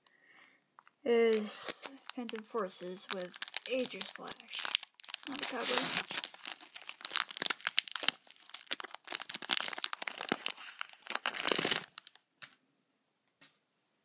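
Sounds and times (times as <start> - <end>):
foil wrapper crinkling and tearing: 1.3 - 12.6.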